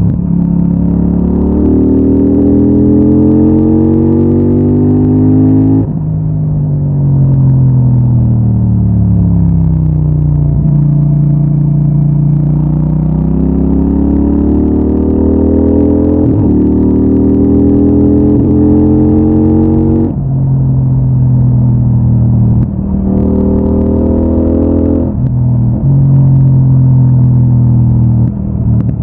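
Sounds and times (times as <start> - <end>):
motorcycle engine revving: 0.0 - 6.2, 7.0 - 29.0.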